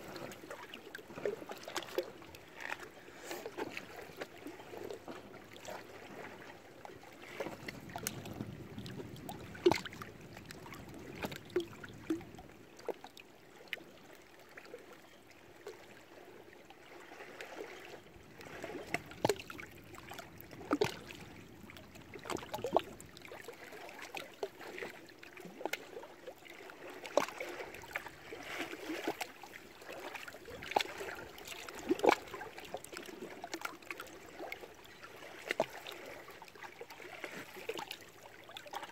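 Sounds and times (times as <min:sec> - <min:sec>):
water splashes: 0:00.0 - 0:15.0, 0:15.6 - 0:38.9
small waves lapping: 0:00.0 - 0:38.9.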